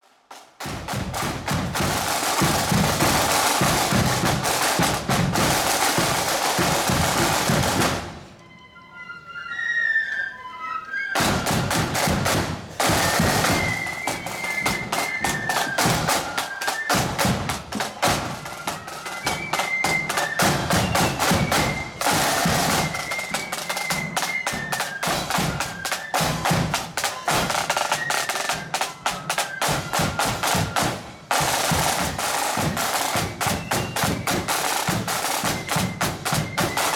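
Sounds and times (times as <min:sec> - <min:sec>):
side drums rolling: 0:00.3 - 0:08.4, 0:11.2 - 0:36.9
high flute melody: 0:01.8 - 0:36.9.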